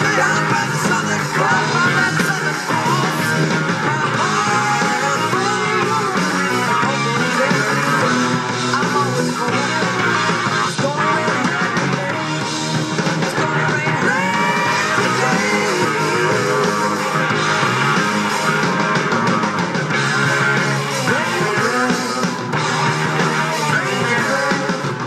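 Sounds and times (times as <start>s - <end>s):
rock music with guitar: 0.0s - 25.0s.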